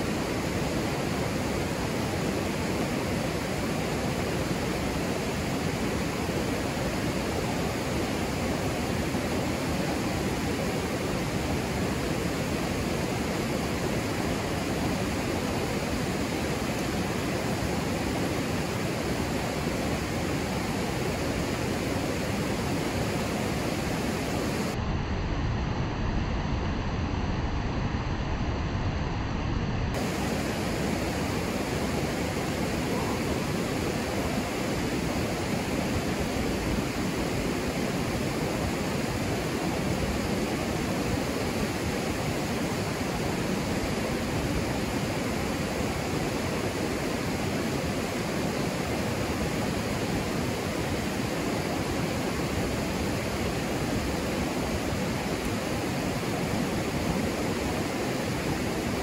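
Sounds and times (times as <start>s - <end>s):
river rapids rushing: 0.0s - 24.8s, 30.0s - 59.0s.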